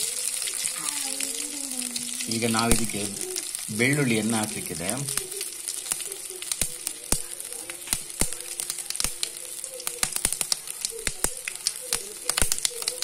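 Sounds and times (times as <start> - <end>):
hot oil sizzling: 0.0 - 13.0
seeds popping and crackling: 0.0 - 13.0.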